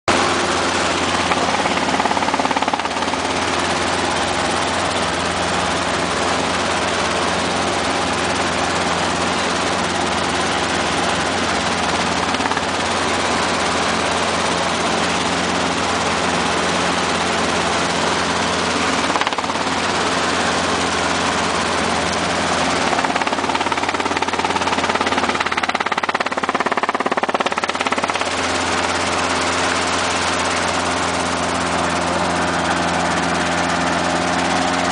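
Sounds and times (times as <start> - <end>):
helicopter engine and rotor drone: 0.1 - 34.9.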